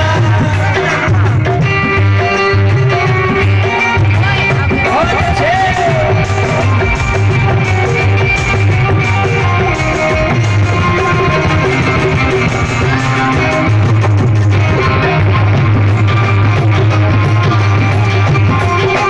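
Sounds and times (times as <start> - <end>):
devotional music over loudspeakers: 0.0 - 19.0.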